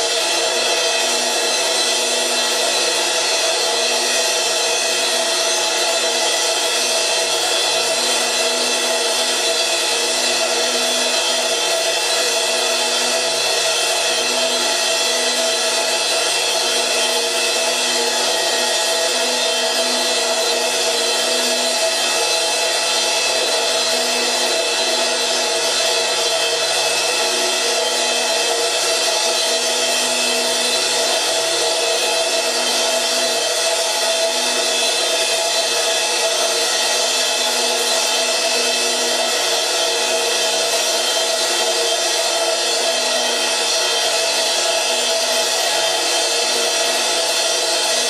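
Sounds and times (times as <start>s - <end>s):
cymbal ringing drone: 0.0s - 48.0s.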